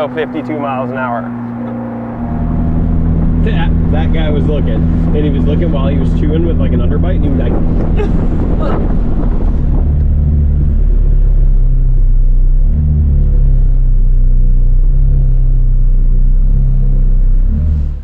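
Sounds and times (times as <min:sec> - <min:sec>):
car engine heard from cabin: 0:00.0 - 0:18.0.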